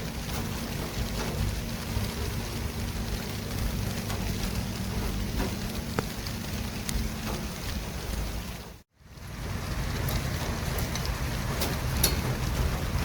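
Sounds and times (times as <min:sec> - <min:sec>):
traffic rumble and hiss: 0:00.0 - 0:13.0.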